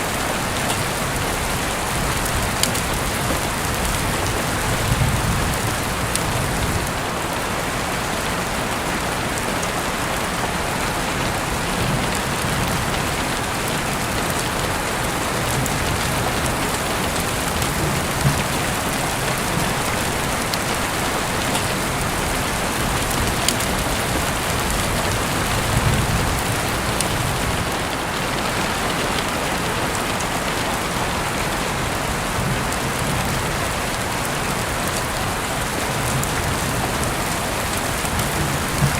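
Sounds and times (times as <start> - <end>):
heavy rain hissing on surface: 0.0 - 38.9.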